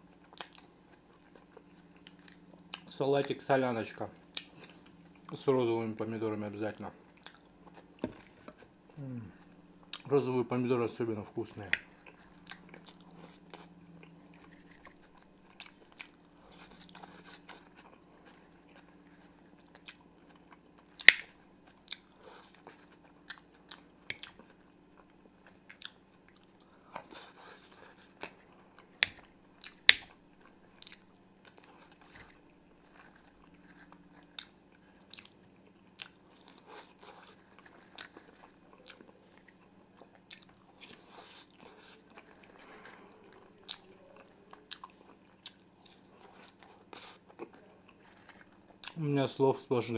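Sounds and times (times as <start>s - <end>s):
chewing crunchy food: 0.0s - 10.1s, 11.3s - 49.0s
faint low hum: 0.0s - 49.9s.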